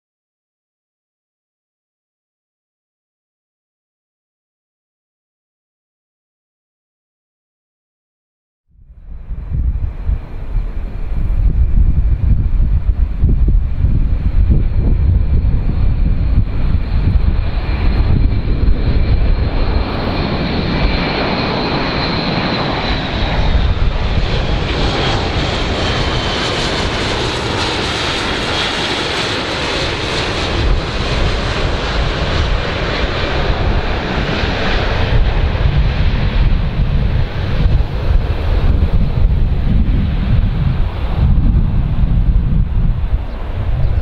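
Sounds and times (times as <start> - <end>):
turboprop aircraft flying past: 8.8 - 44.0.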